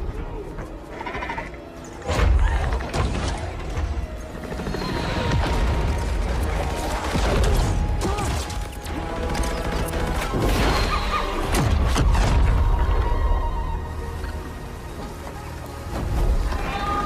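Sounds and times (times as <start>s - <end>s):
orchestral film score: 0.0s - 17.0s.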